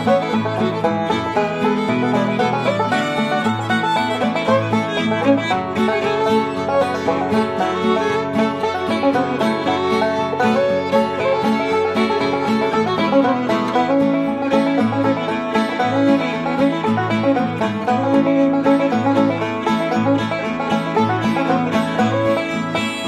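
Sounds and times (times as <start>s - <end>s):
banjo: 0.0s - 23.0s
fiddle: 0.0s - 23.0s
plucked string instrument: 0.0s - 23.0s.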